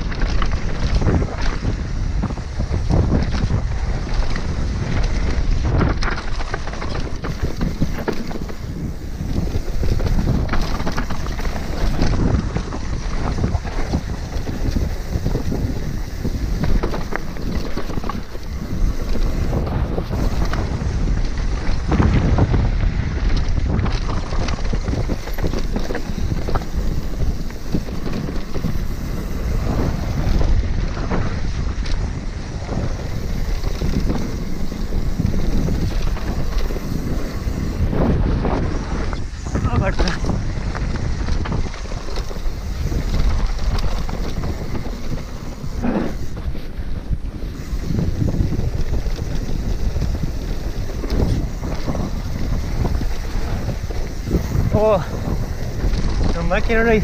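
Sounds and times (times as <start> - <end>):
bike knocks and rattles: 0.0 - 57.0
tyres crunching on dirt: 0.0 - 57.0
wind buffeting microphone: 0.0 - 57.0.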